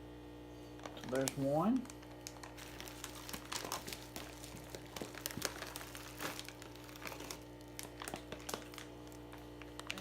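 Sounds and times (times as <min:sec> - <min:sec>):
plastic bags crinkling: 0:00.8 - 0:10.0.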